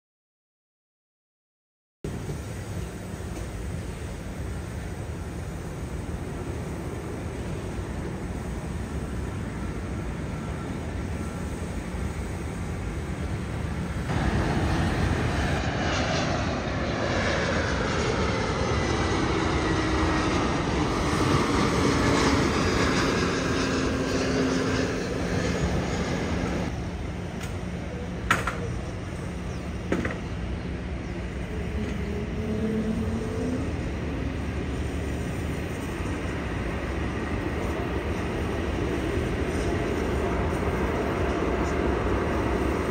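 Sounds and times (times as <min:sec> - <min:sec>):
jet engine rumble: 0:02.1 - 0:42.9
jet engine whine: 0:02.1 - 0:42.9.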